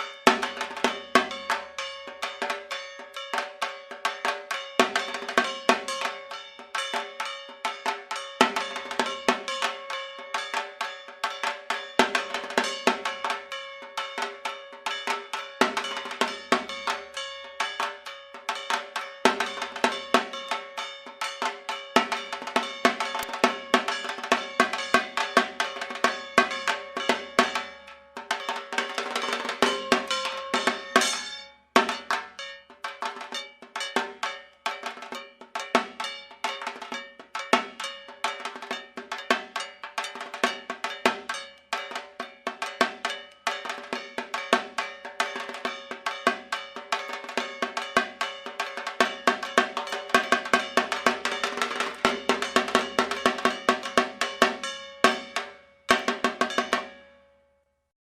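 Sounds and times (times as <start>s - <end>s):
drums in fast rhythm: 0.0s - 57.0s.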